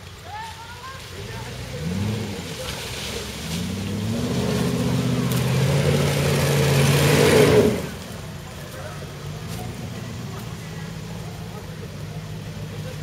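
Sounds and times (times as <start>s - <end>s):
engine revving under load: 1.1s - 13.0s.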